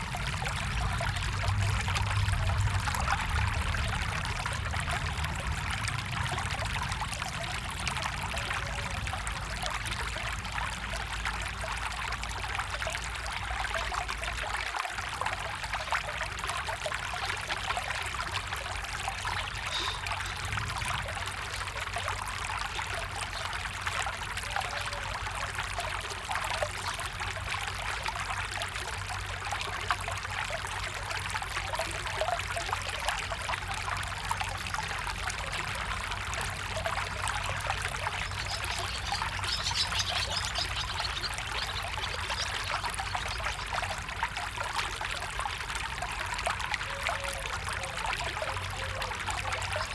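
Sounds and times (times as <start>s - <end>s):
stream water trickling: 0.0s - 49.9s.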